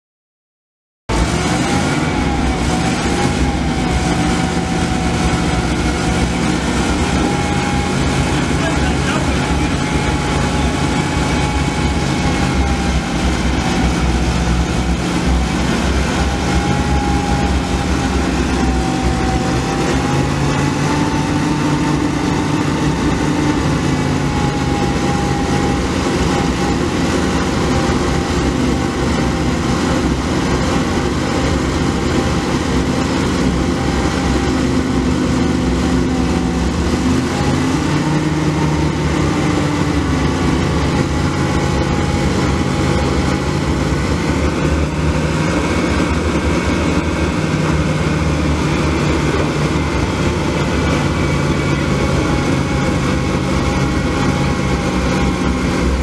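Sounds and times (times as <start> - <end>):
truck engine idling: 1.2 - 56.0.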